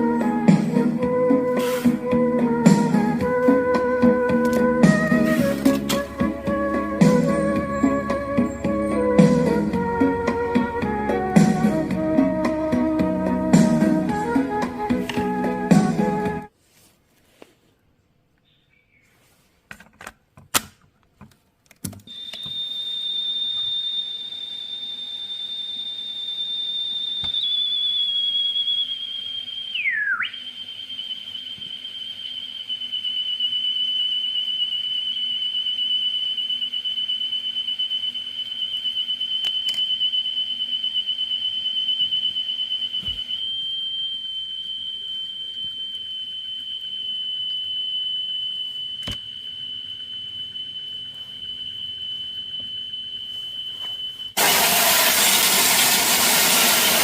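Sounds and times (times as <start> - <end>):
steady high test tone: 0.0 - 16.4, 22.1 - 57.0.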